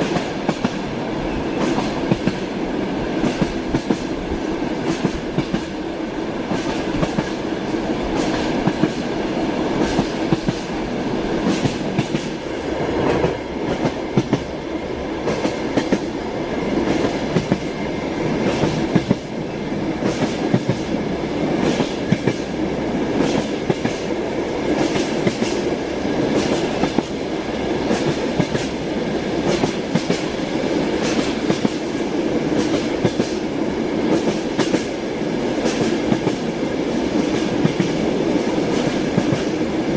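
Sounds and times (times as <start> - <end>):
train wheels clacking: 0.0 - 4.2, 4.8 - 5.8, 6.4 - 9.2, 9.8 - 10.8, 11.4 - 14.6, 15.2 - 19.3, 20.0 - 39.7
train running rumble: 0.0 - 39.9.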